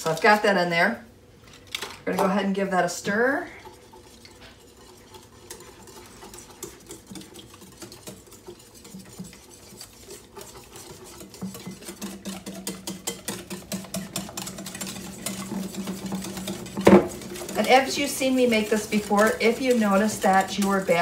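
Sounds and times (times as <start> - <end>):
whisk clicking against glass bowl: 4.1 - 21.0.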